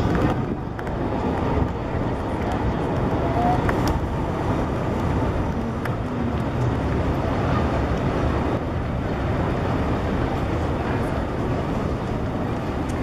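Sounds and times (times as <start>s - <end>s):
city street noise: 0.0s - 13.0s
tram rolling on track: 0.0s - 13.0s.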